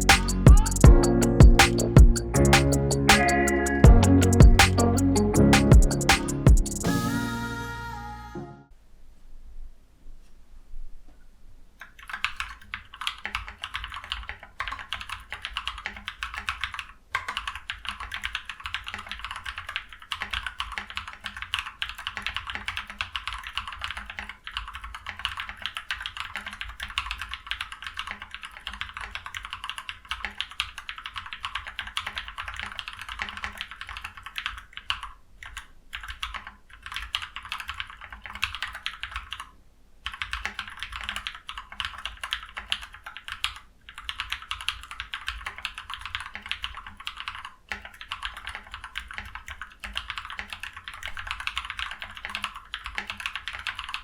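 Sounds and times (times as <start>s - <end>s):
fast mechanical keyboard typing: 0.0s - 6.8s, 11.8s - 54.0s.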